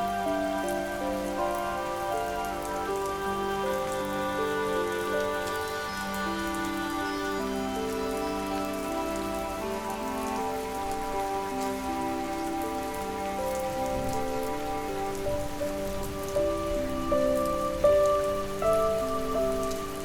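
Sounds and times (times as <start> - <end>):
calm sleep music: 0.0 - 20.0
gentle rain patter: 0.0 - 20.0.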